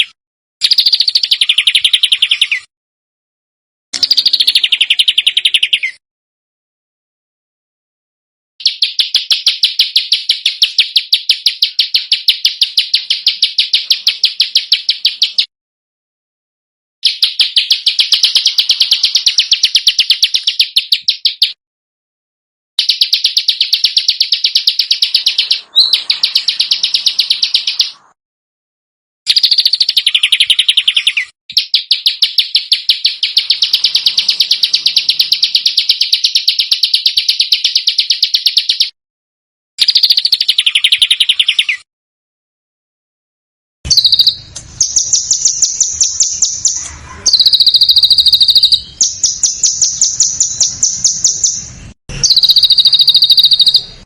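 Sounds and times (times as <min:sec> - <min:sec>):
songbird harsh chirps: 0:00.0 - 0:02.7, 0:04.0 - 0:06.0, 0:08.6 - 0:15.5, 0:17.0 - 0:21.6, 0:22.8 - 0:28.2, 0:29.3 - 0:39.0, 0:39.8 - 0:41.9, 0:43.9 - 0:54.0.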